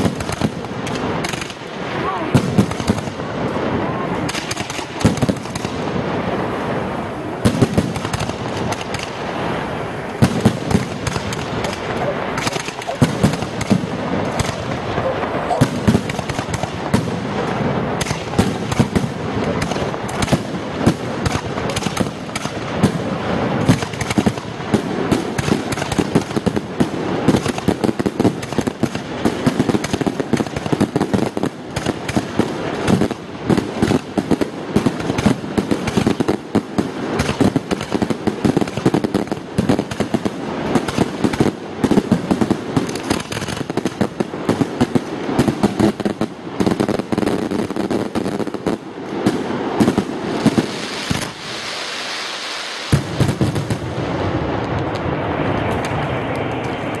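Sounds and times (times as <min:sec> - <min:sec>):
fireworks bursting and crackling: 0:00.0 - 0:57.0.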